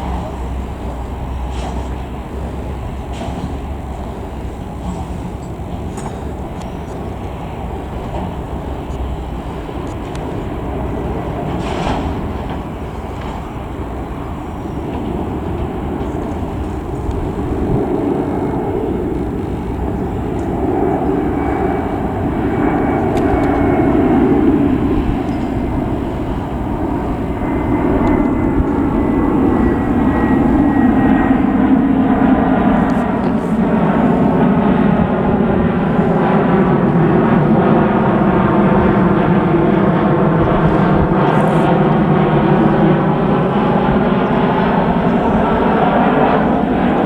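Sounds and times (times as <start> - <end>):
faint high engine whine: 0.0 - 47.0
jet engines rumbling: 0.0 - 47.0.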